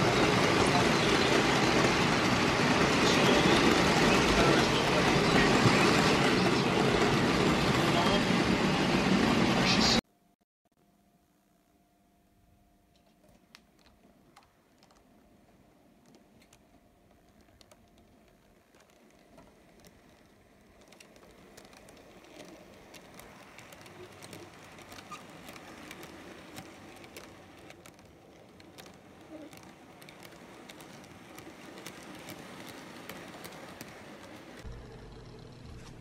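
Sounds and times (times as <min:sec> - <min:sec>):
model train clicking over track: 0:00.0 - 0:10.0, 0:16.0 - 0:36.0.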